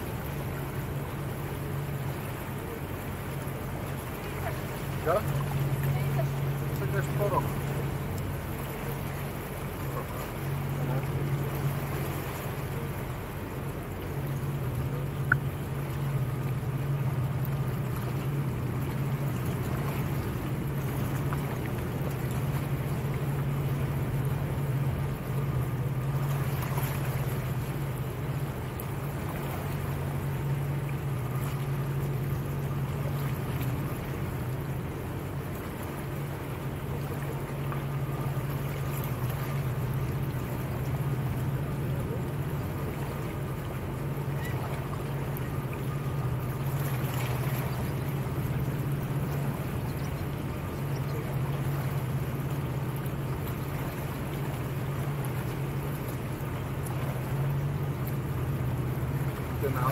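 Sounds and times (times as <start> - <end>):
motorboat engine droning: 0.0 - 59.9
water washing along hull: 0.0 - 59.9.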